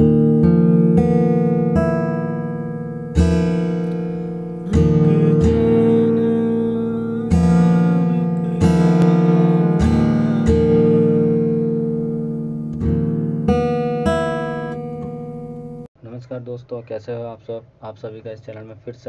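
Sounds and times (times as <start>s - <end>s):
acoustic guitar strummed chords: 0.0s - 15.9s.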